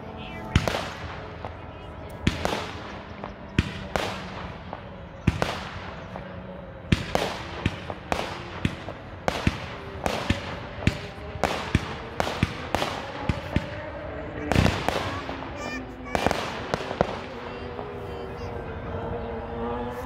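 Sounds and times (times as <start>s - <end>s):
fireworks bangs with crackle: 0.5s - 6.3s, 6.9s - 17.5s.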